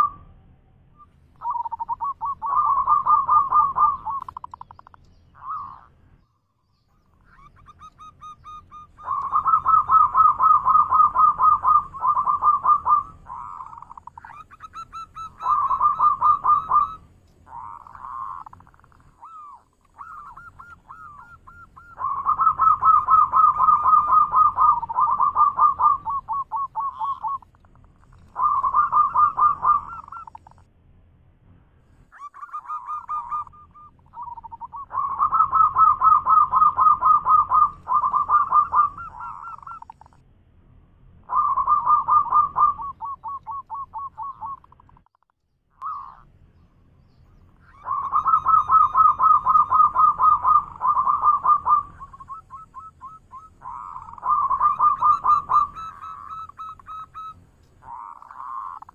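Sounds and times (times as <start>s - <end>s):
dove cooing song: 0.0s - 6.0s, 7.1s - 30.7s, 32.1s - 40.2s, 41.2s - 45.1s, 45.8s - 46.2s, 47.3s - 58.9s.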